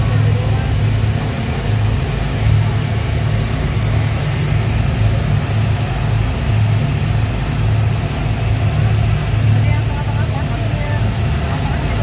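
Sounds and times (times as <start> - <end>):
speedboat engine drone: 0.0 - 12.0.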